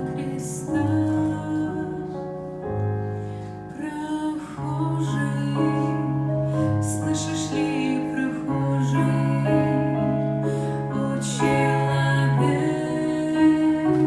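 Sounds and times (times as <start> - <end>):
slow church song on keyboard: 0.0 - 14.0.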